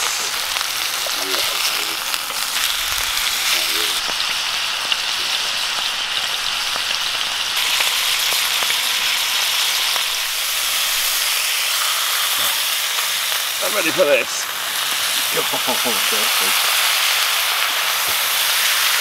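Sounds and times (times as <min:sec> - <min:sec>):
burgers sizzling in a pan: 0:00.0 - 0:19.0.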